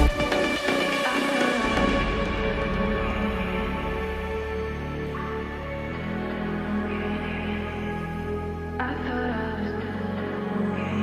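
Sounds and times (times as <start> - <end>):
music with held tones and low bass: 0.0 - 11.0.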